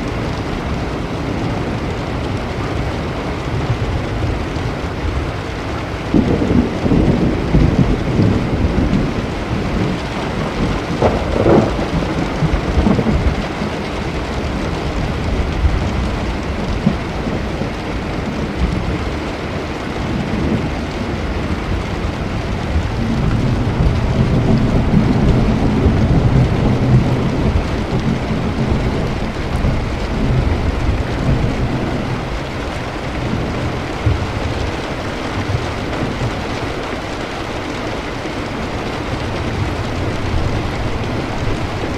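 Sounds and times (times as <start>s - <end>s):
heavy rain: 0.0s - 41.9s
low thunder rolling: 0.0s - 41.9s.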